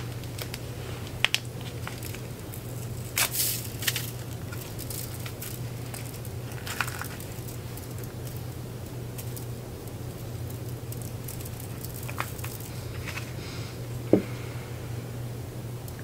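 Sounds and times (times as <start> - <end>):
small clicks and crinkles: 0.0 - 13.4
crackly rustle: 0.0 - 14.0
steady low hum: 0.0 - 16.0.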